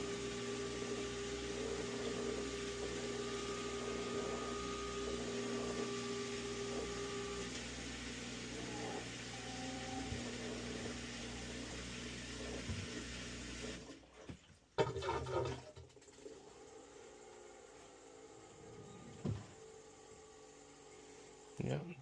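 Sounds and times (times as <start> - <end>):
washing machine spin hum: 0.0 - 14.6, 16.1 - 22.0
washing machine whine: 0.0 - 22.0.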